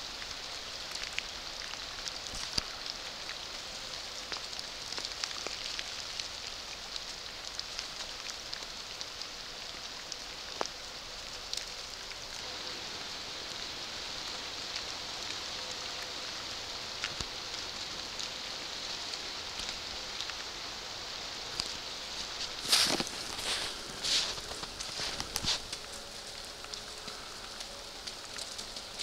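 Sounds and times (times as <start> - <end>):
rain falling on water: 0.0 - 29.0.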